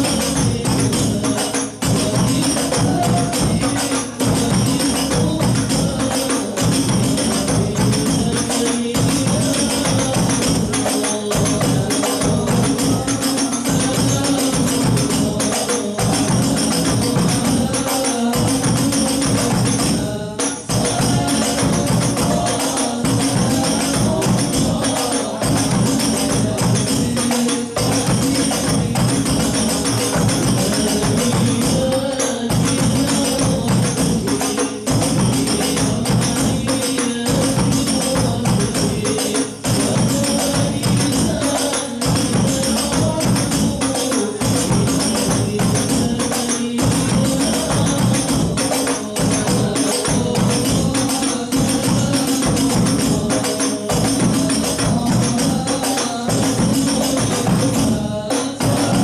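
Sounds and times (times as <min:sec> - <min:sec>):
bass drum: 0:00.0 - 0:59.0
frame drums playing fast rhythm: 0:00.0 - 0:59.0.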